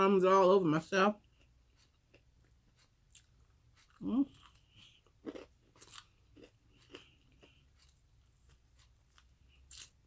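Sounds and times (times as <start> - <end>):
person chewing crispy chicken: 1.3 - 10.0.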